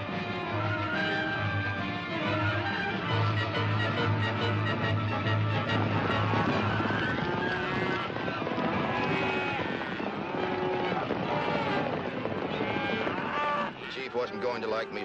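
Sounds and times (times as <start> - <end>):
rumble of hooves: 0.0 - 15.0
cattle bawling: 2.4 - 15.0.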